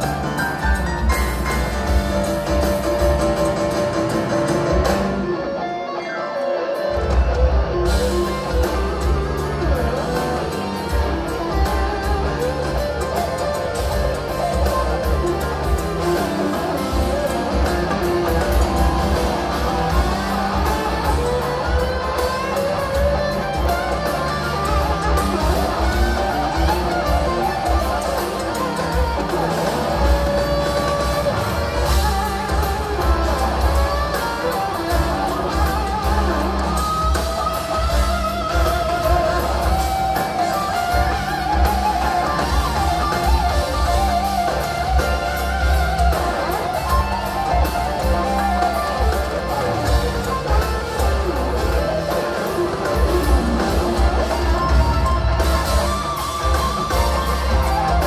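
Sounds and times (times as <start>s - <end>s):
bass: 0.0s - 5.2s, 7.2s - 58.0s
drums: 0.0s - 58.0s
electric guitar solo: 0.0s - 58.0s.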